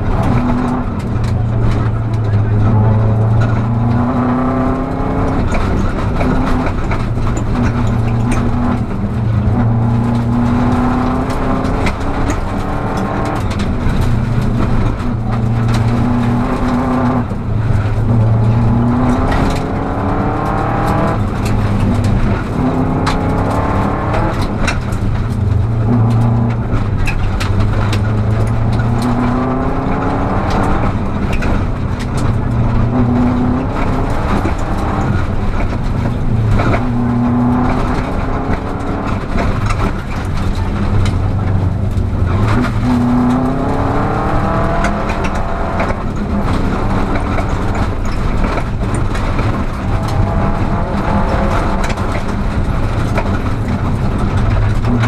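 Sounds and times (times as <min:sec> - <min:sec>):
gravel ticking against car: 0:00.0 - 0:55.0
rally car engine revving: 0:00.0 - 0:55.0.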